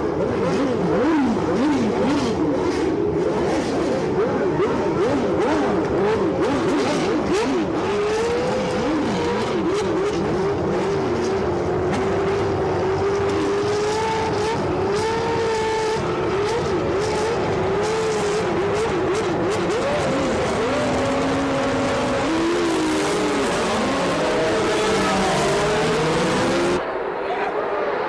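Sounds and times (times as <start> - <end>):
racing cars engines: 0.0 - 28.0.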